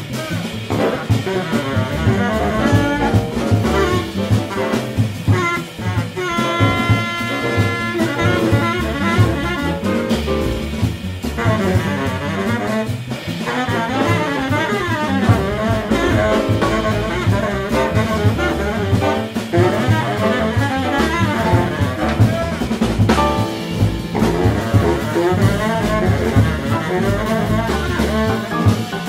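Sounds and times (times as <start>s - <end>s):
baritone saxophone solo: 0.0s - 29.0s
jazz band playing: 0.0s - 29.0s.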